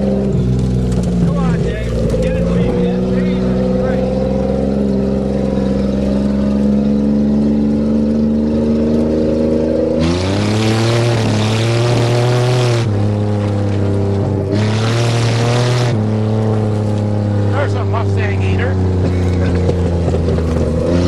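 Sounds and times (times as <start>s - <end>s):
car engine running under load: 0.0s - 21.0s.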